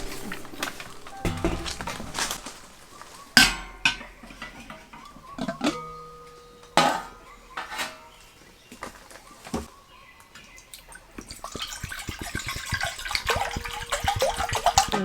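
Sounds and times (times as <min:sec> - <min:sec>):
dishes and utensils clattering: 0:00.0 - 0:09.7, 0:10.8 - 0:15.0.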